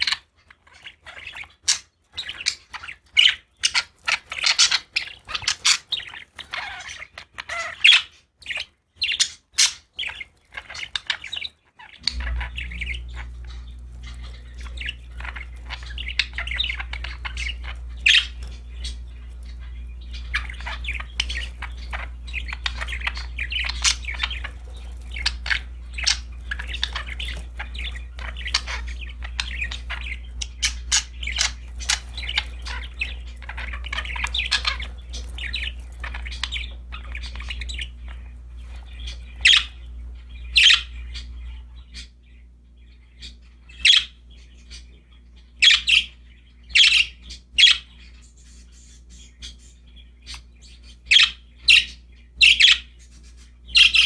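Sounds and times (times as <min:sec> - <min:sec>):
budgerigars chattering: 0:00.0 - 0:54.0
low steady hum: 0:10.0 - 0:54.0.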